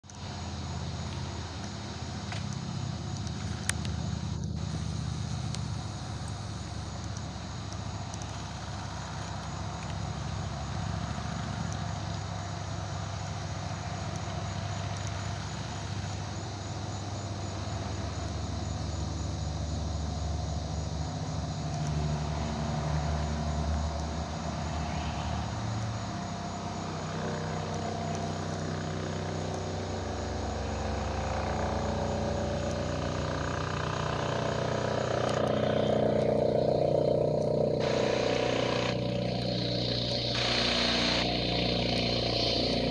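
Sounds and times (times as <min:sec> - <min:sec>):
helicopter turbines and rotor: 0:00.1 - 0:24.6, 0:25.7 - 0:42.9.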